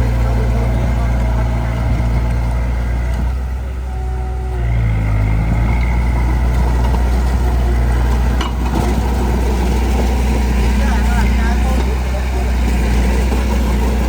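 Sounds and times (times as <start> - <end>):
diesel engine under load: 0.0 - 14.0.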